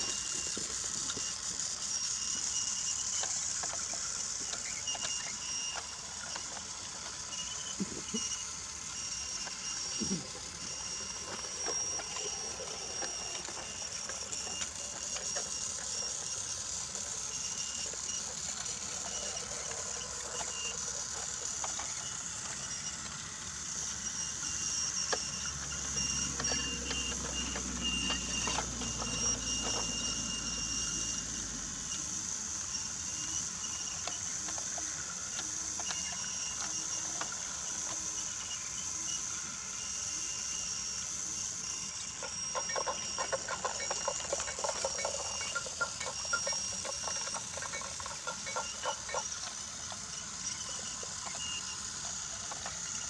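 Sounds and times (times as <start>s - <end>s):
wheels clicking over track joints: 0.0s - 40.0s, 40.6s - 53.0s
toy train motor whirring: 0.0s - 53.0s.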